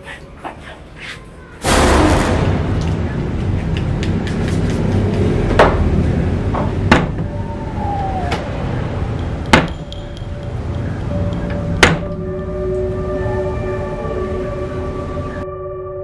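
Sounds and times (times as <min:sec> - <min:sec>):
low steady rumble: 0:01.6 - 0:15.2.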